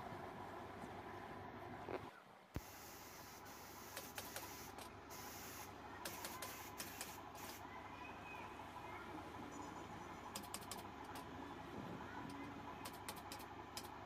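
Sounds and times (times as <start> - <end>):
faint workshop background: 0.0 - 14.0.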